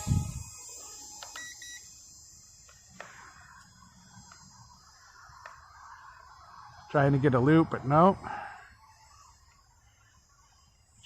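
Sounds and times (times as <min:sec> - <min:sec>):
small electric motor whine: 0:00.0 - 0:11.0.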